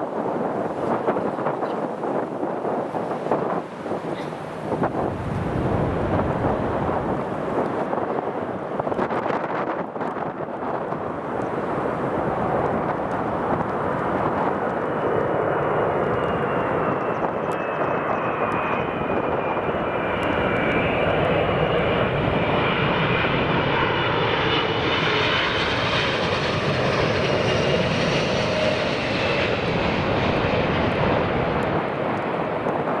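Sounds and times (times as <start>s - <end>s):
jet engines roaring with whine: 0.0s - 33.0s.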